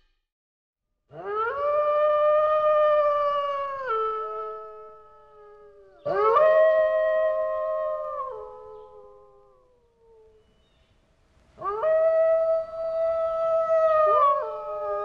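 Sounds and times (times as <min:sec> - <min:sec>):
wolf howling: 0:01.1 - 0:10.4, 0:11.6 - 0:15.0.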